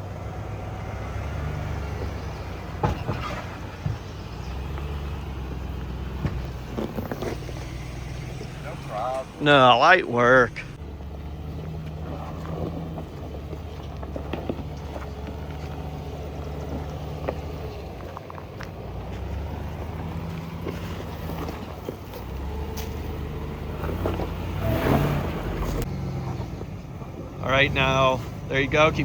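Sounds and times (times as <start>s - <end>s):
suv engine running at low revs: 0.0s - 29.0s.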